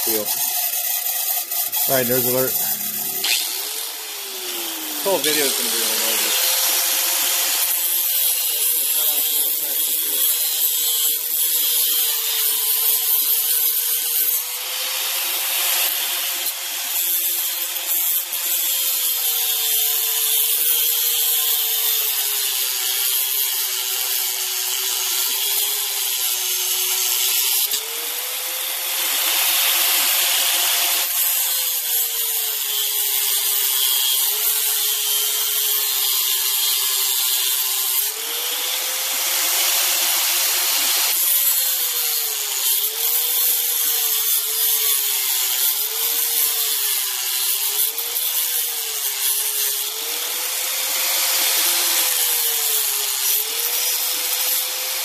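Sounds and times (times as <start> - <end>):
bench grinder motor hum: 0.0 - 55.0
harsh grinding hiss: 0.0 - 55.0.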